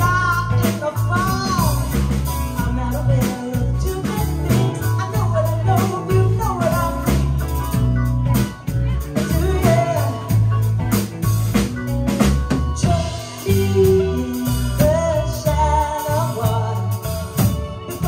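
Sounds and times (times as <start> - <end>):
drum kit: 0.0 - 18.0
electric bass: 0.0 - 18.0
electric guitar: 0.0 - 18.0
keyboard: 0.0 - 18.0.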